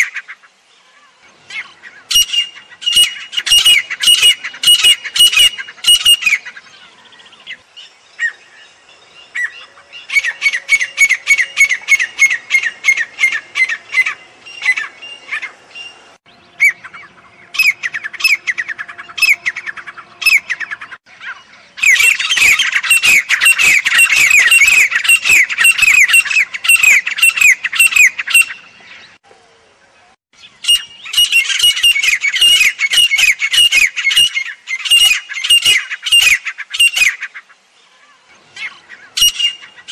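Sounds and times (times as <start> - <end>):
francolin calling harshly: 0.0 - 28.7, 30.4 - 39.9.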